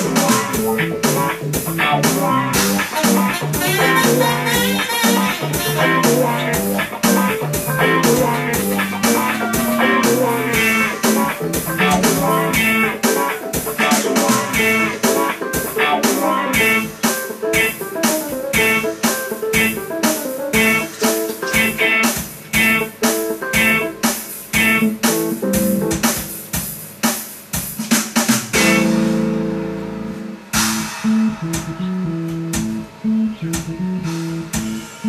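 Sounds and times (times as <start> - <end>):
guitar-led instrumental: 0.0 - 26.4, 28.6 - 35.0
steady drum beat: 0.0 - 35.0.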